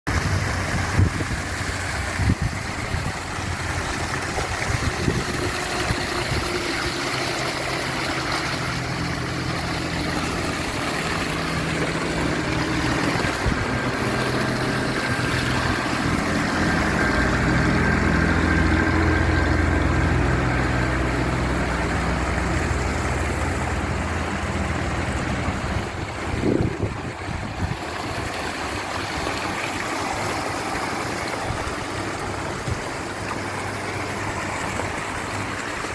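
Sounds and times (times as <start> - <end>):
low engine-like hum: 0.1 - 35.9
water rushing over waterfall: 0.1 - 35.9.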